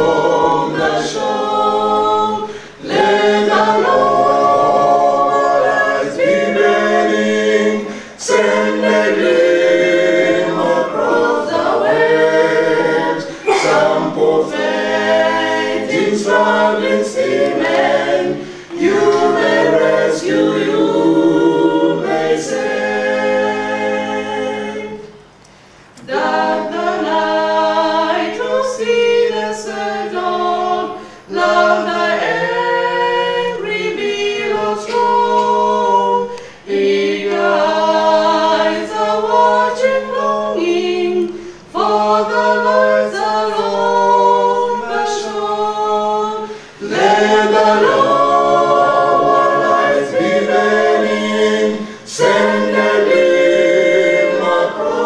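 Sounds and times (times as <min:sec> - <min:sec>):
group singing a hymn a cappella: 0:00.0 - 0:55.0.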